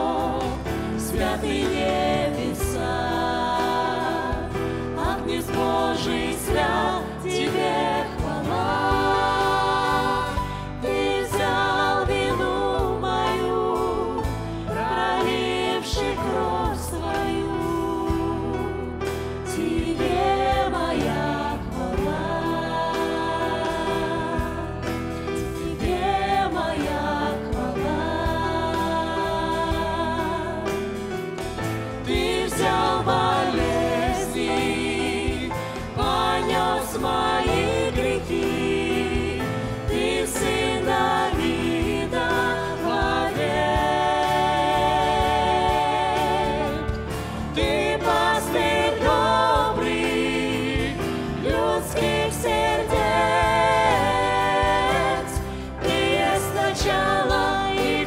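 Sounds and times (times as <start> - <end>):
choir singing in parts: 0.0 - 58.0
keyboards: 0.0 - 58.0.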